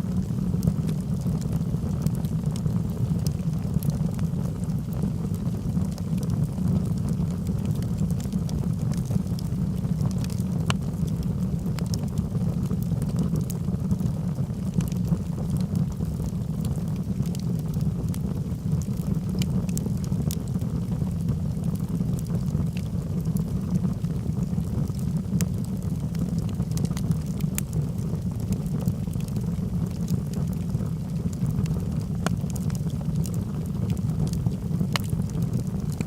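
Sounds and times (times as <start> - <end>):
fire crackles and pops: 0.0 - 36.0
low rumble of flame: 0.0 - 36.0.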